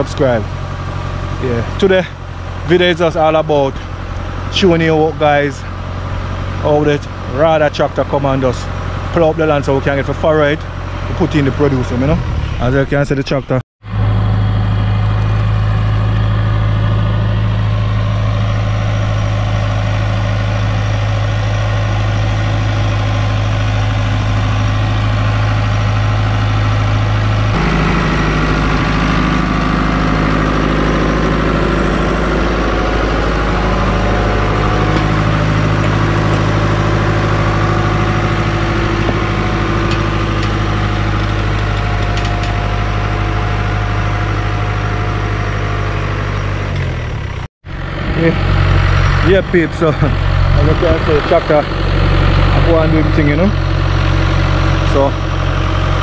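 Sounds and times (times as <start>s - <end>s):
diesel tractor engine under load: 0.0s - 56.0s.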